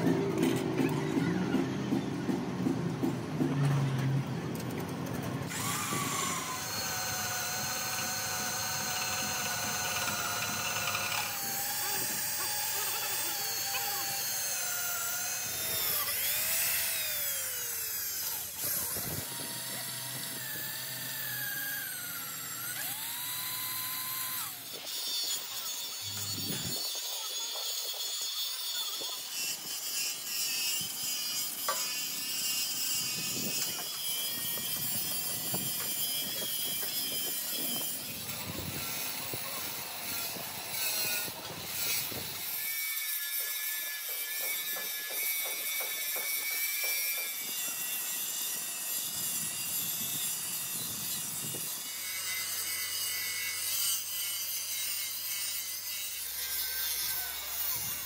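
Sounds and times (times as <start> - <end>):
tool scraping and rasping: 4.6 - 58.0.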